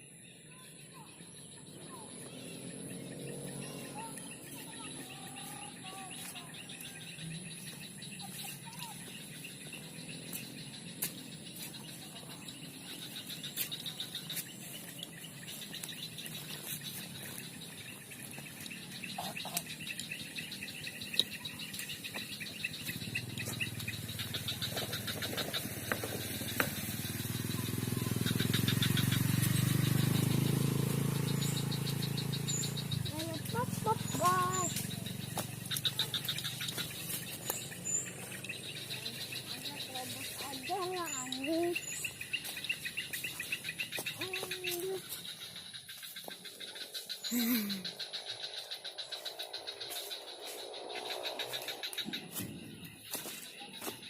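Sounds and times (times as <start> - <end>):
small birds chirping and trilling: 0.0 - 54.0
high insect drone: 1.0 - 53.9.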